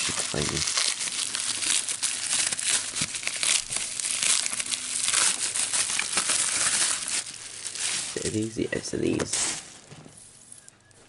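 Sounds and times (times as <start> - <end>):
plastic packaging crinkling: 0.0 - 10.7.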